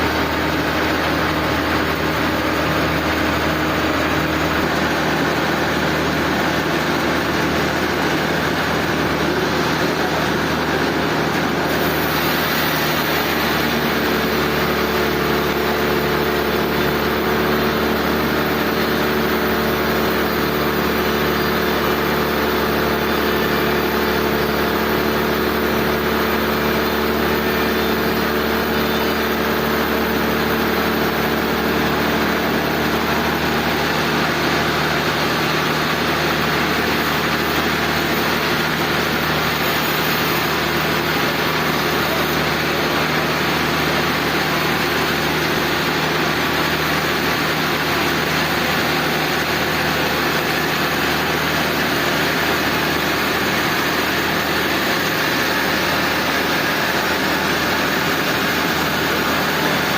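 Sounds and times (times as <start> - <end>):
sawmill machinery engine drone: 0.0 - 59.9.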